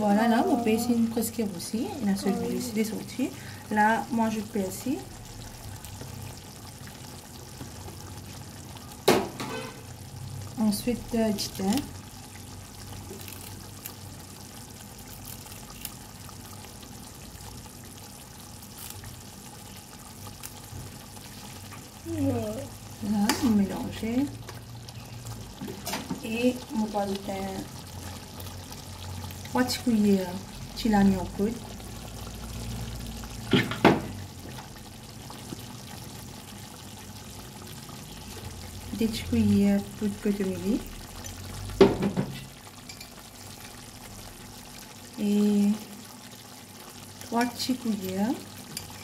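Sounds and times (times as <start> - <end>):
gravy bubbling and sizzling: 0.0 - 49.0.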